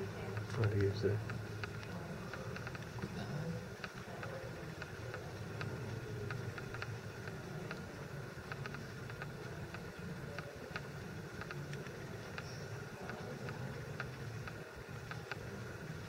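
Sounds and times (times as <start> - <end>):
faint ticks: 0.0 - 16.0
low steady hum: 0.0 - 16.0.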